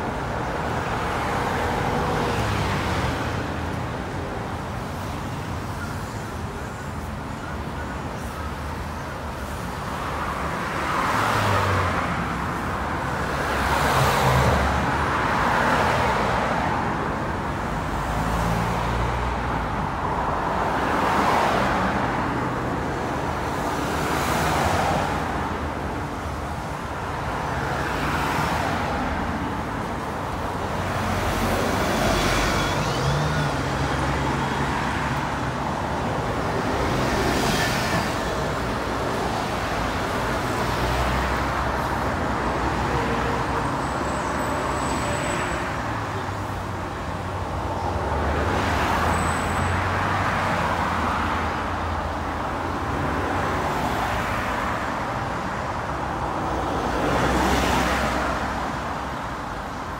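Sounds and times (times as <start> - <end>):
traffic passing: 0.0 - 59.9.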